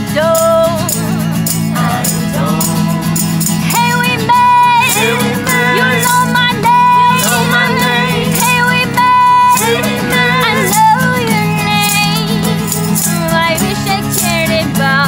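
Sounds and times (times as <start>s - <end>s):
acoustic guitar: 0.0s - 15.0s
backing voices: 0.0s - 15.0s
mandolin: 0.0s - 15.0s
tambourine: 0.0s - 15.0s
woman singing lead: 0.0s - 15.0s
hand shaker: 0.2s - 15.0s.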